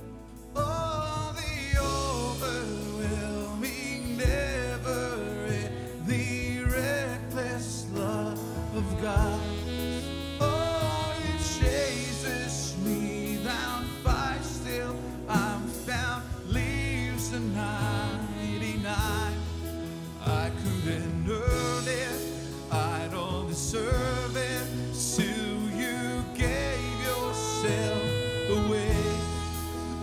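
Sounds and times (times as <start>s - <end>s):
worship band playing: 0.0s - 30.0s
man singing: 0.5s - 30.0s.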